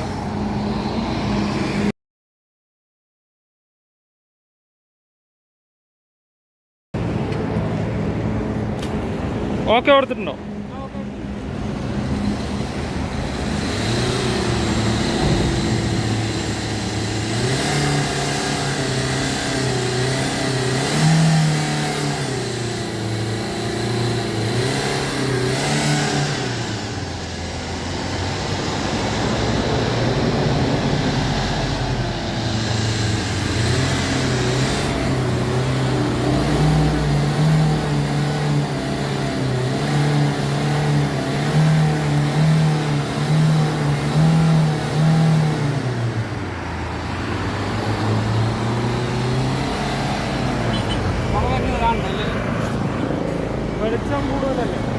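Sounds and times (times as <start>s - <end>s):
car engine revving: 7.0s - 54.9s.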